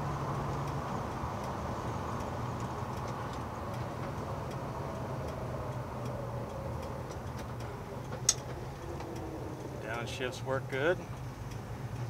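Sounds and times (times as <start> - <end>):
car engine and drivetrain drone: 0.0 - 12.0.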